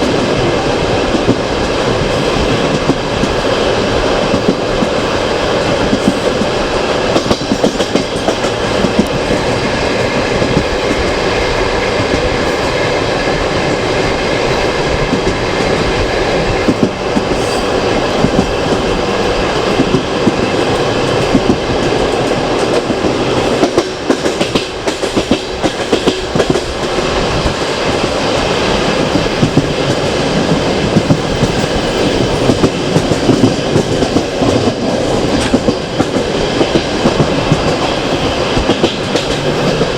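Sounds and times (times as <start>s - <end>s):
train rumble and rushing air: 0.0s - 39.9s
train wheels clattering: 0.0s - 39.9s.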